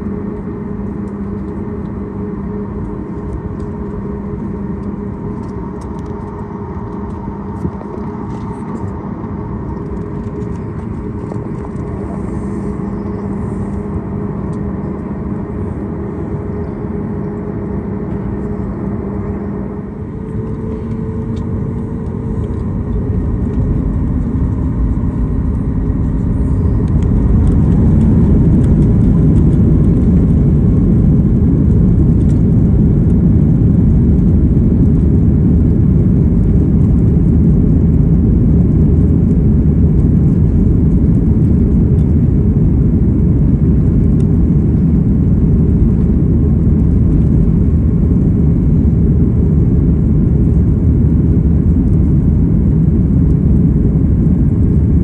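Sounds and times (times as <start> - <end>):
aircraft cabin rumble while taxiing: 0.0 - 55.0.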